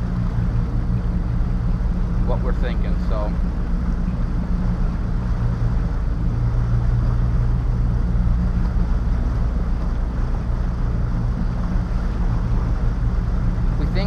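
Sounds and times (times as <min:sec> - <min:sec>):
boat engine droning: 0:00.0 - 0:14.0
wind: 0:00.0 - 0:14.0.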